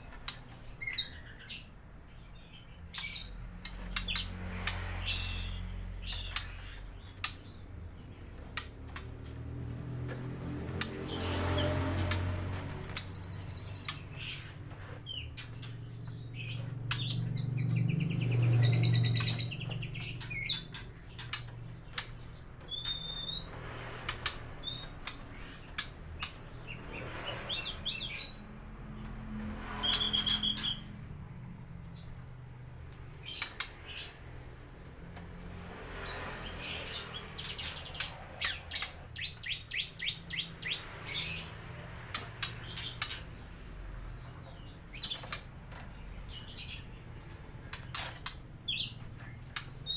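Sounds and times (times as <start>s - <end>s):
bird singing varied song: 0.0s - 49.9s.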